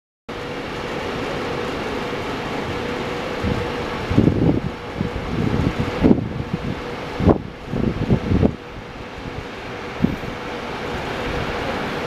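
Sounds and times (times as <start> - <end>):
locomotive cooling fans whirring: 0.3 - 12.0
wind buffeting microphone: 0.4 - 12.0.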